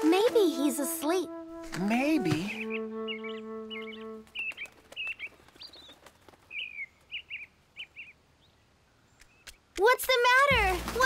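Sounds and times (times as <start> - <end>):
small birds chirping: 1.7 - 11.0.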